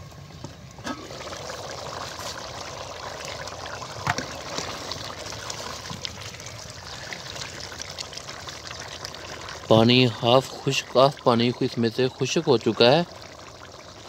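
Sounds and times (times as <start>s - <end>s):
curry bubbling in a pot: 0.3s - 14.0s.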